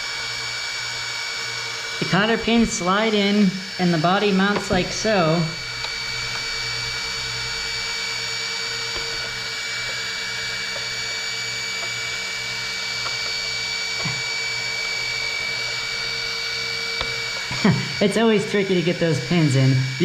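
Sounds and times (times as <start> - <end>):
electric cooling fans whining: 0.0 - 20.0
low hum: 1.2 - 20.0.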